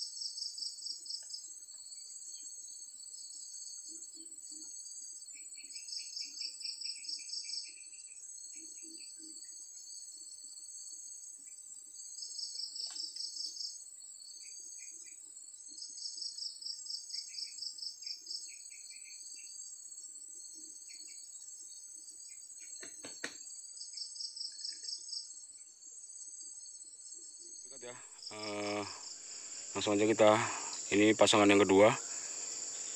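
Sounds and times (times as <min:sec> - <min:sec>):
high insect whine: 0:00.0 - 0:32.9
insects chirping in pulsed trills: 0:00.0 - 0:32.9.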